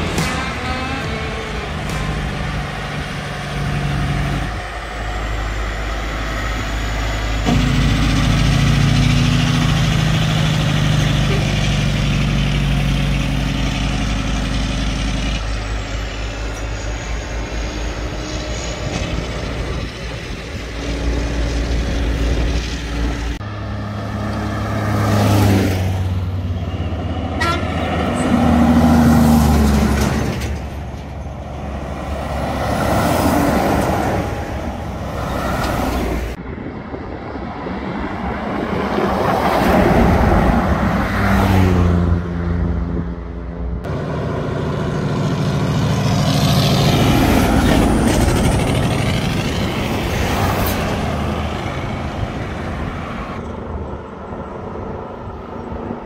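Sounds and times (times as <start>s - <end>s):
heavy diesel trucks driving past: 0.0s - 56.0s.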